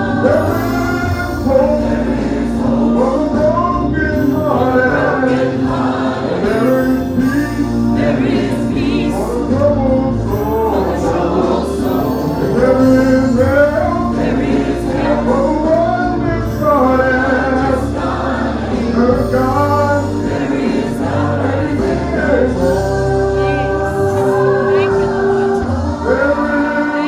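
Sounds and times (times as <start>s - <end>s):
gospel choir singing: 0.0s - 27.0s.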